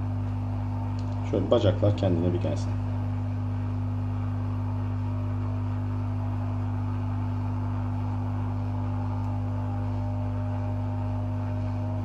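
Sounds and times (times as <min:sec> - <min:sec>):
steady low hum: 0:00.0 - 0:12.0
hot air blower rushing: 0:01.3 - 0:12.0.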